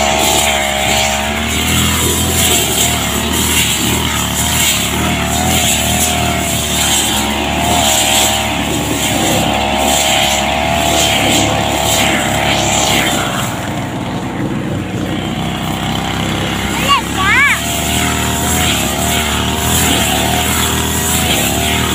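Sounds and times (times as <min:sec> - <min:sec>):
brush cutter cutting grass: 0:00.0 - 0:21.9.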